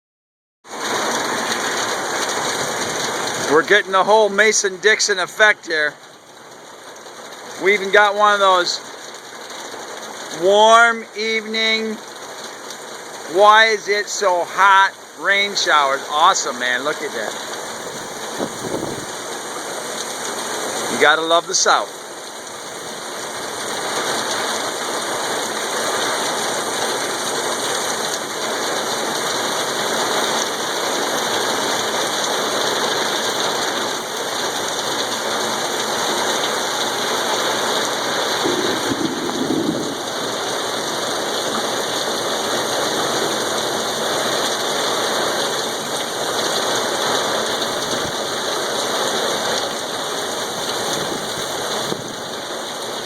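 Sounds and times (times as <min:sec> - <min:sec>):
rain pouring: 0:00.7 - 0:53.0.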